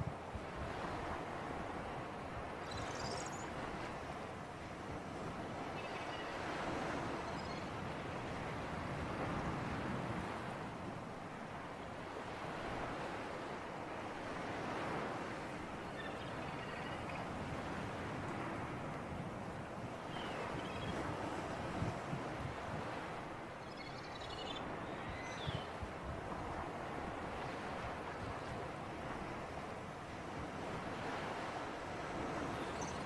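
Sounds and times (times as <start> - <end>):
surf waves washing: 0.0 - 23.6, 24.6 - 33.0
wind: 0.0 - 33.0.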